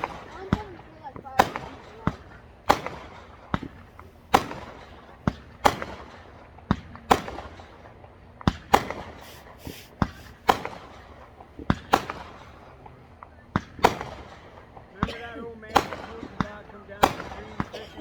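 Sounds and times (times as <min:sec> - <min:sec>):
fireworks banging: 0:00.0 - 0:18.0.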